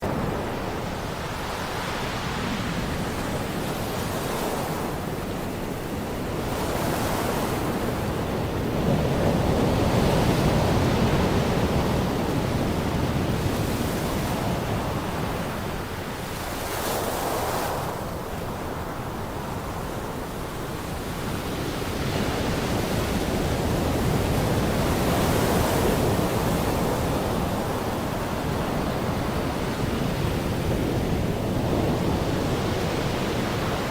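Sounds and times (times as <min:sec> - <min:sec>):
waves breaking on beach: 0:00.0 - 0:33.9.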